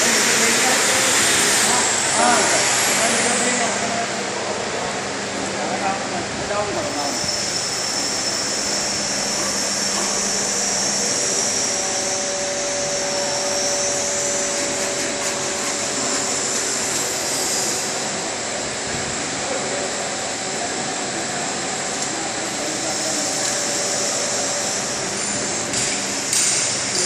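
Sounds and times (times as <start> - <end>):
factory machinery hissing: 0.0 - 27.0.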